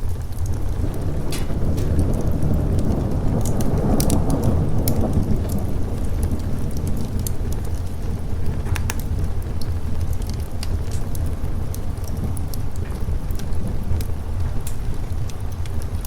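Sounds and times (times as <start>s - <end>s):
steady rain: 0.0s - 16.0s
thunder rumble: 0.0s - 16.0s
wood fire crackling: 0.0s - 16.0s.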